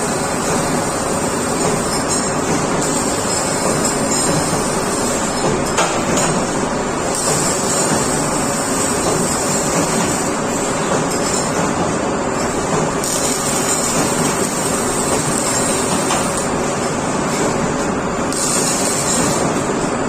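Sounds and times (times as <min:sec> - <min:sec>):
industrial machinery running: 0:00.0 - 0:20.0.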